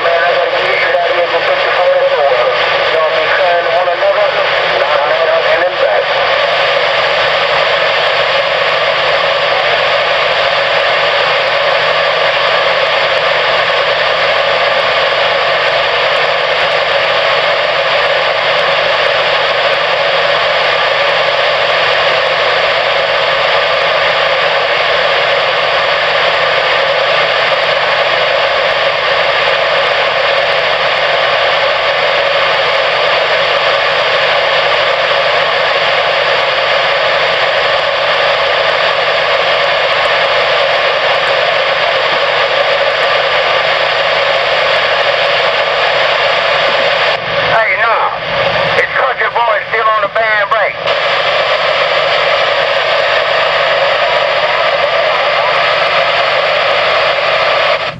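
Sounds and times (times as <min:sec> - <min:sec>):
radio static hiss: 0:00.0 - 0:57.9.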